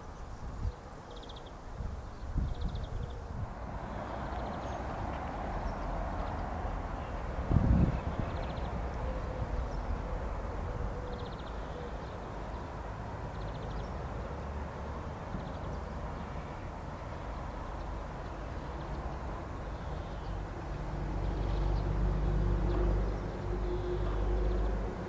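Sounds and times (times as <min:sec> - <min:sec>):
low outdoor background rumble: 0:01.1 - 0:25.0.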